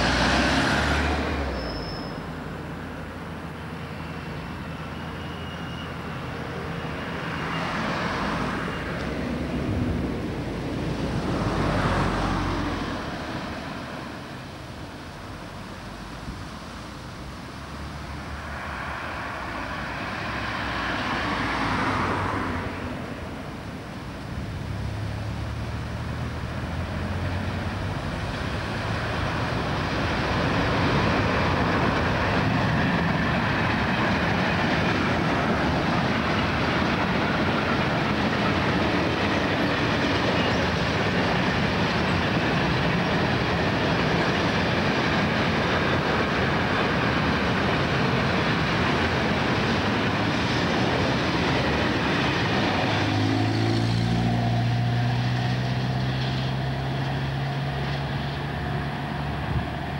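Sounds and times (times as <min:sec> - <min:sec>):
freight train wheels rolling on rails: 0:00.0 - 0:59.9.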